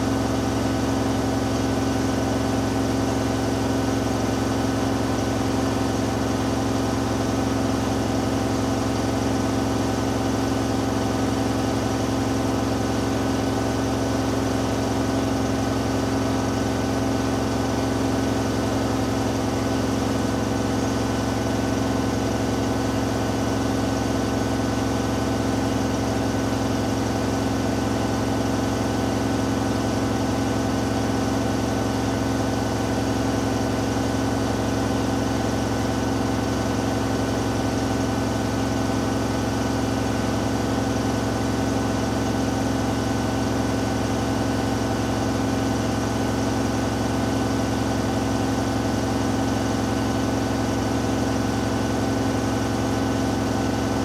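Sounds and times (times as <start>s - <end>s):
washing machine spinning: 0.2s - 54.0s.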